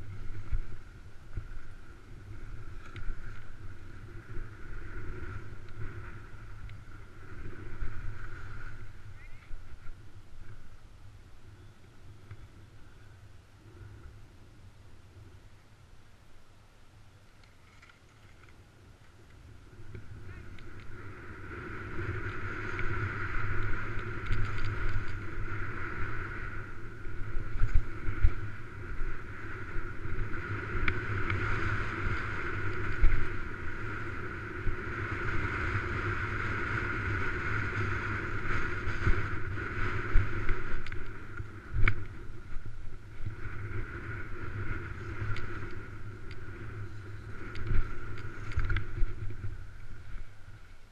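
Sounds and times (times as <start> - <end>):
skis scraping over snow: 0.0 - 10.8, 17.6 - 50.9
wind rushing across microphone: 0.0 - 15.7, 18.4 - 50.9.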